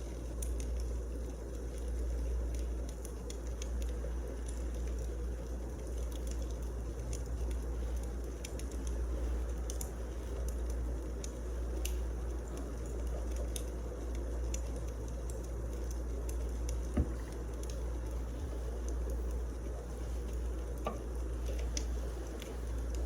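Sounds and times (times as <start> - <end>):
low rumble of fire: 0.0 - 23.0
wood fire popping and ticking: 0.0 - 23.0.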